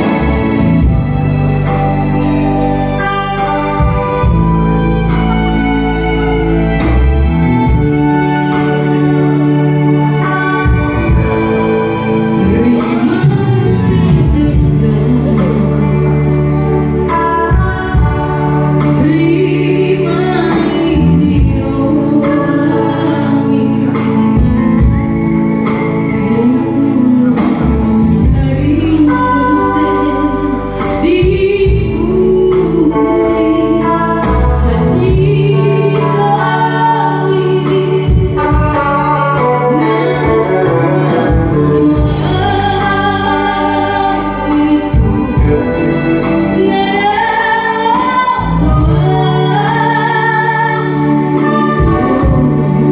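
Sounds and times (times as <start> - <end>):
bass: 0.0 - 52.9
keyboard: 0.0 - 52.9
woman singing: 7.6 - 25.2, 25.9 - 52.9.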